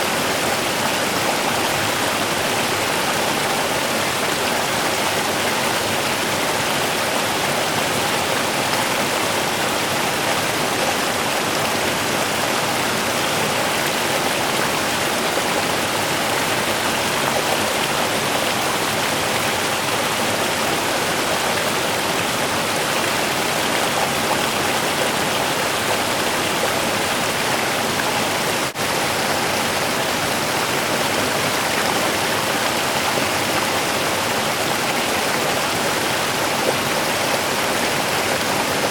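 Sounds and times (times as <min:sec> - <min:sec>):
river running over rocks: 0:00.0 - 0:38.9.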